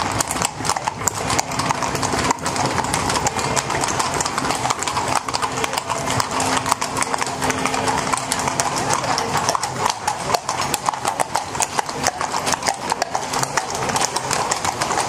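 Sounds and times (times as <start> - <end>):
horse hooves clip-clopping on stone: 0.0 - 15.0.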